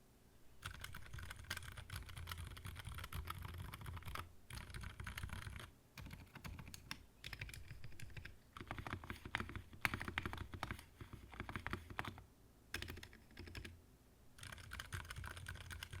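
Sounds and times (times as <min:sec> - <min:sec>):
mechanical keyboard typing: 0:00.6 - 0:13.7, 0:14.4 - 0:16.0.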